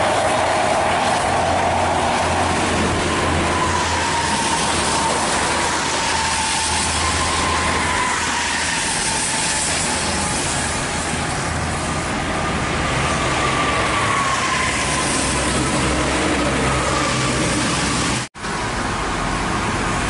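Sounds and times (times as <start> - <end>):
rain hissing: 0.0 - 19.2
diesel engines running: 0.0 - 20.0
tyres on wet pavement: 0.0 - 20.0.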